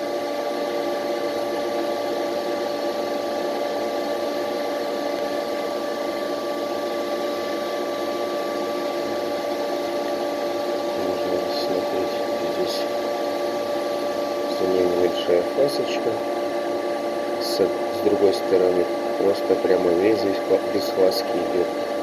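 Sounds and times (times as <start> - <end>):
lathe machine hum: 0.0 - 22.0.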